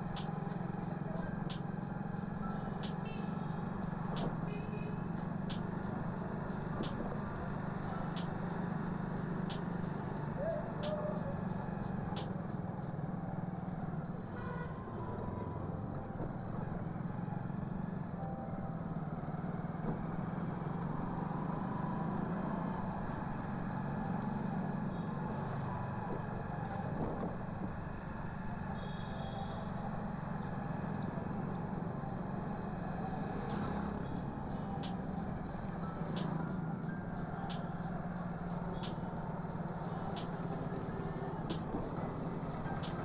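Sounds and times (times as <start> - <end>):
road and traffic noise: 0.0 - 43.0.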